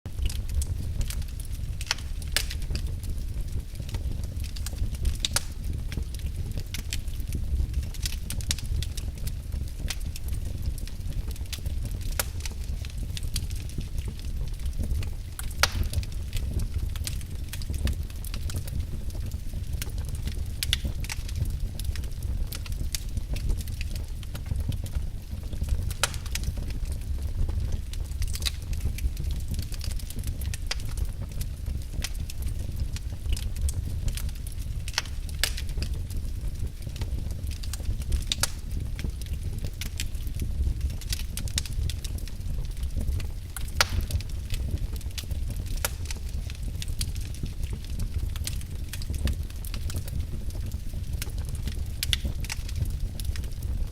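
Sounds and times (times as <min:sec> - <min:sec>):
logs burning and crackling: 0:00.1 - 0:53.9
low rumble of flames: 0:00.1 - 0:53.9.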